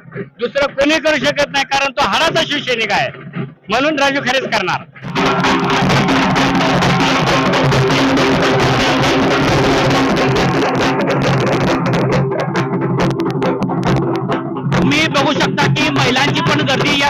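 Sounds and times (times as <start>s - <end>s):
drum band playing fast rhythm: 0.0s - 17.0s
held low tones: 2.1s - 17.0s.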